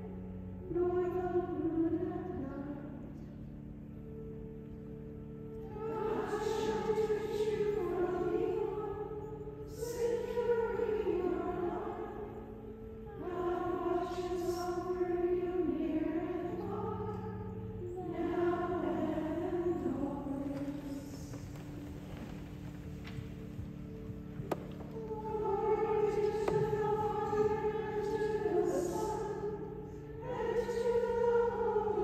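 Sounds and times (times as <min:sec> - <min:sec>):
held accompanying chords: 0:00.0 - 0:32.0
choir singing: 0:05.6 - 0:32.0.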